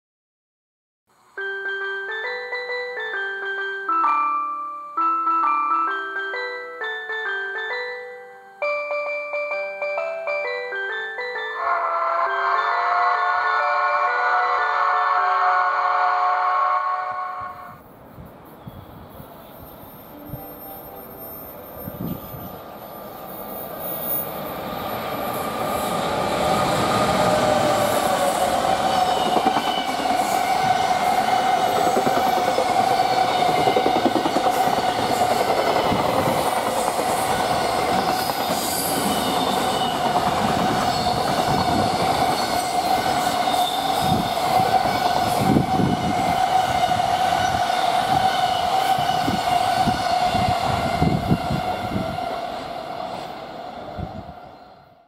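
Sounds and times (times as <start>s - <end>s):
freight train rumbling past: 8.6s - 55.0s.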